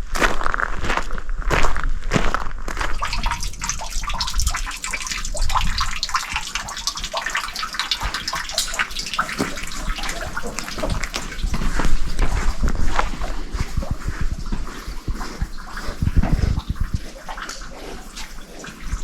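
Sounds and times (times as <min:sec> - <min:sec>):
water running and splashing: 0:02.7 - 0:19.0.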